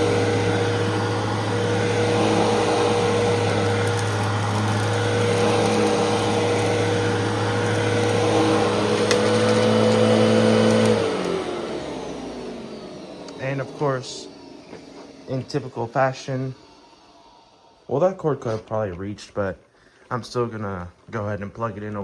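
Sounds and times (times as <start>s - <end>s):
vacuum cleaner motor running: 0.0s - 19.2s.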